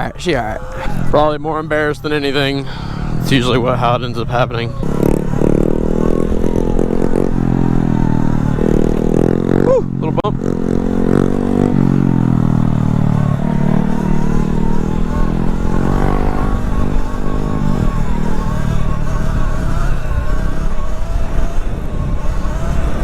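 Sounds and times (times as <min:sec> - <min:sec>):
motorcycle engine whine: 0:00.0 - 0:23.0
wind rumbling on microphone: 0:02.5 - 0:23.0.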